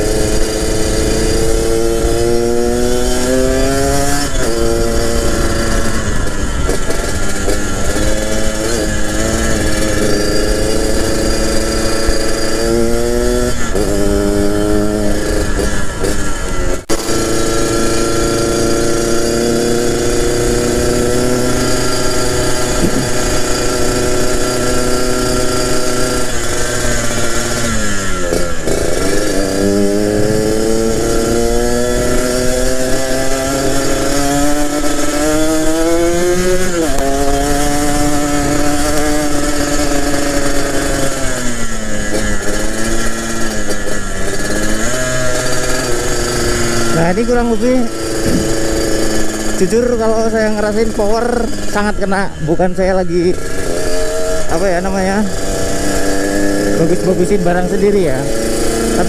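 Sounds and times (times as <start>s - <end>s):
two-stroke motorcycle engine: 0.0s - 59.0s.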